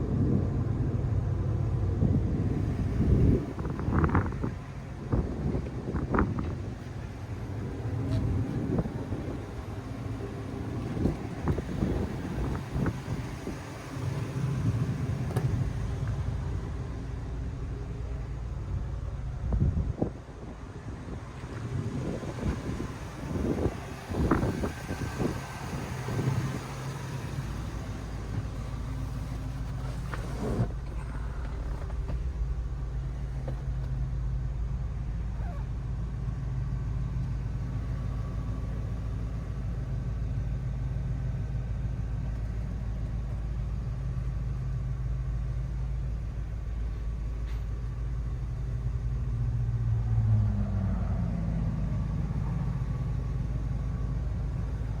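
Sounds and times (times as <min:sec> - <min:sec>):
pickup engine idling and revving: 0:00.0 - 0:55.0.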